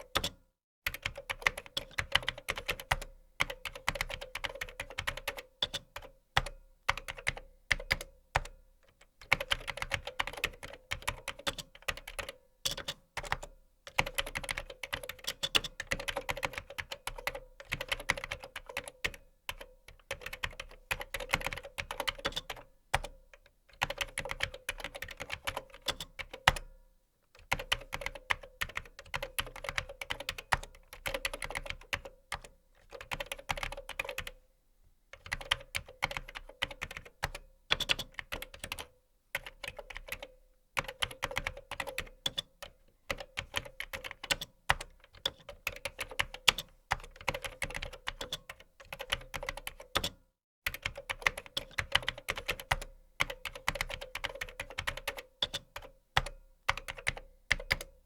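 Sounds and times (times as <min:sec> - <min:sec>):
fast typing on keyboard: 0:00.0 - 0:08.6, 0:09.2 - 0:23.2, 0:23.8 - 0:26.6, 0:27.4 - 0:34.4, 0:35.2 - 0:58.0.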